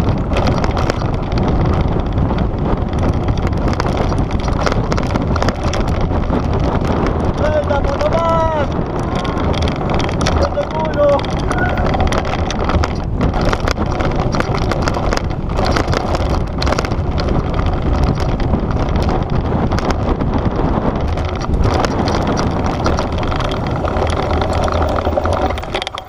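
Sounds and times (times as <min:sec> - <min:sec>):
bike chain and suspension rattling: 0:00.0 - 0:26.0
wind rumble on microphone: 0:00.0 - 0:26.0
tyres crunching over gravel: 0:00.3 - 0:26.0.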